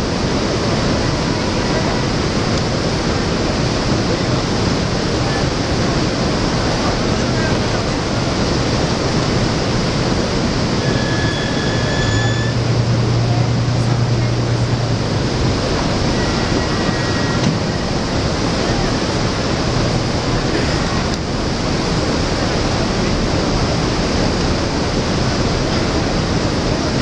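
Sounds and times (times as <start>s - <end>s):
boat engine humming: 0.0s - 27.0s
loud steady rushing noise: 0.0s - 27.0s.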